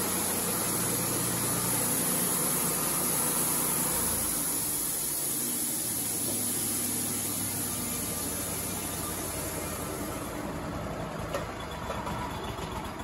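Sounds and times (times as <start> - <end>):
saw hissing: 0.0 - 10.4
sawmill engine hum: 0.0 - 13.0.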